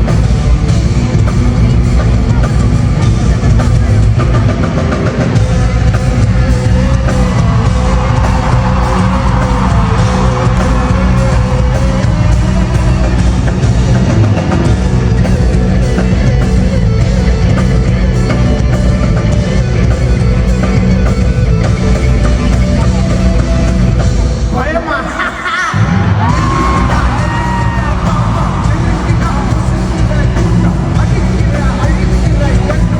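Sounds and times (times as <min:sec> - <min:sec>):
live rock band playing: 0:00.0 - 0:32.9.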